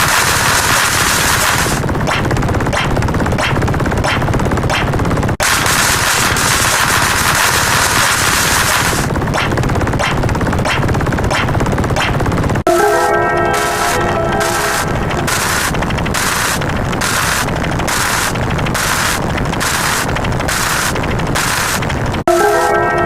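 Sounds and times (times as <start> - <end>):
machine-gun fire: 0.0 - 12.7, 13.7 - 22.2.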